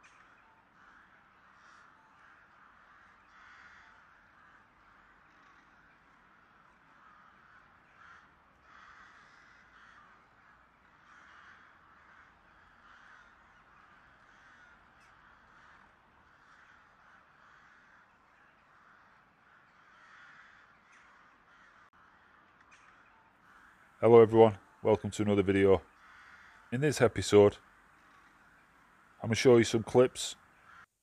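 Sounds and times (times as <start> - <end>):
crows cawing: 0.0 - 31.0.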